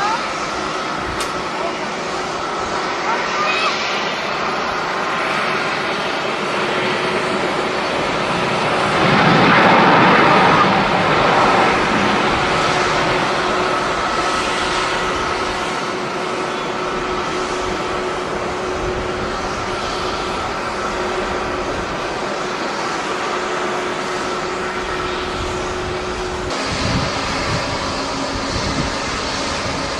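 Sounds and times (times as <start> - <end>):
jet engines running: 0.0 - 29.9.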